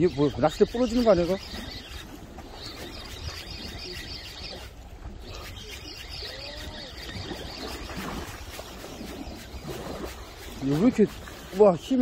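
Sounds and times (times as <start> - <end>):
waves splashing against seawall: 0.0 - 12.0.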